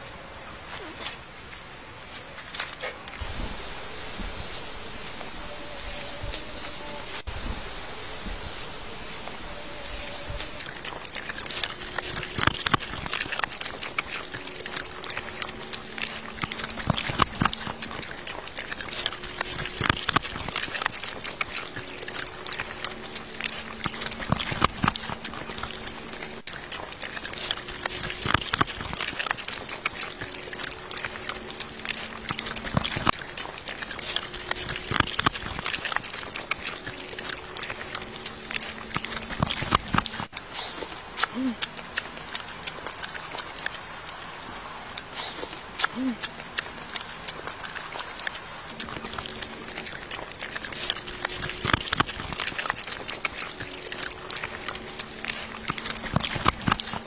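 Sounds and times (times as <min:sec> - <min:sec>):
dogs chewing and licking: 0:00.6 - 0:57.0.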